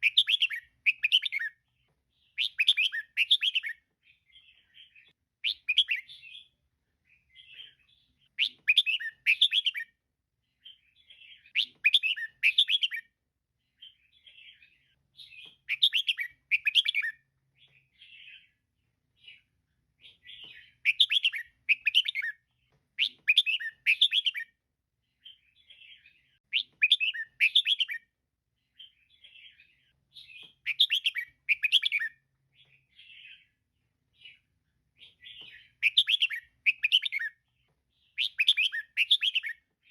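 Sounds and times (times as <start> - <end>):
soft bird twittering: 0.0 - 39.9.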